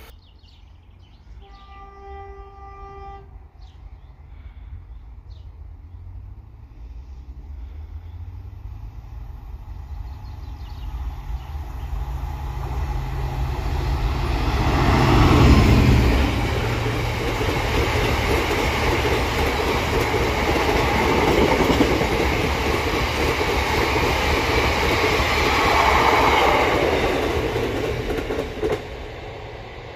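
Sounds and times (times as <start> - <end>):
diesel locomotive passing: 0.8 - 29.9.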